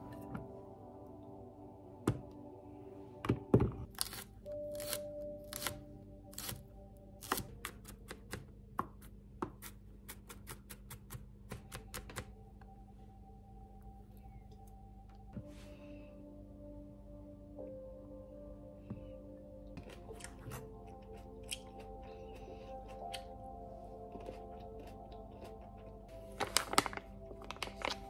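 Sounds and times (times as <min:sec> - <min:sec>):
soft background music: 0:00.0 - 0:28.0.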